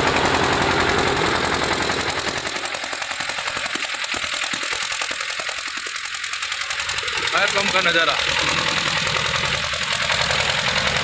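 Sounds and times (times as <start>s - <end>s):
pump engine clattering: 0.0s - 11.0s.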